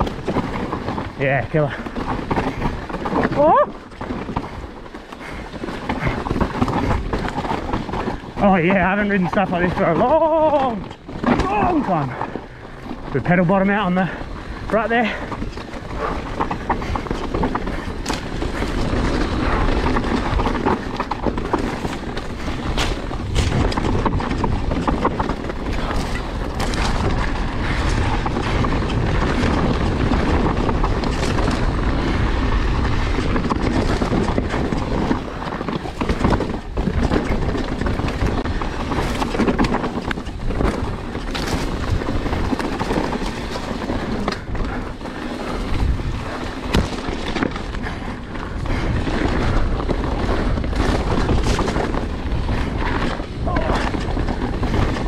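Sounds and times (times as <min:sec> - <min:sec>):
bike knocks and clatters: 0:00.0 - 0:55.0
bike tyres rolling over dirt: 0:00.0 - 0:55.0.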